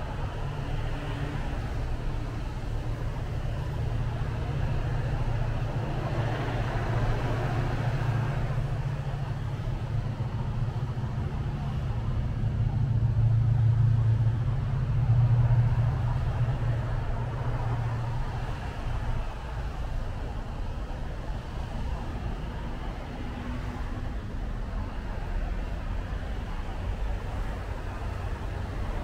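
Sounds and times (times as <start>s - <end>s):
hiss of traffic and rain: 0.0s - 29.0s
passing vehicle engine rumble: 0.0s - 29.0s.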